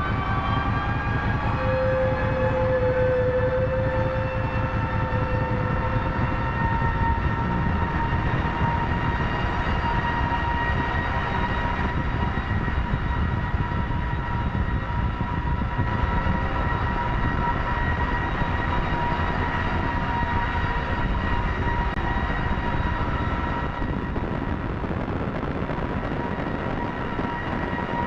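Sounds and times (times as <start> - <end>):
rumbling low synthesizer noise: 0.0 - 28.0.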